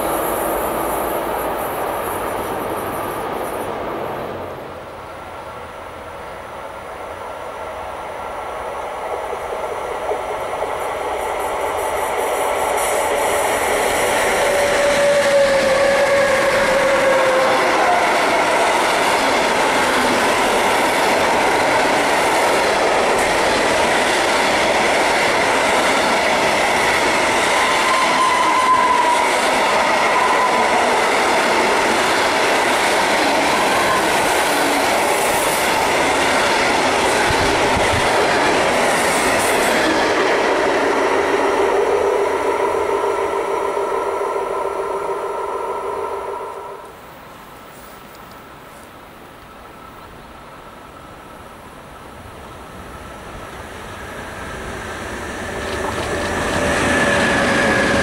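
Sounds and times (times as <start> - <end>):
freight train wheels rumbling: 0.0 - 46.9, 50.2 - 58.0.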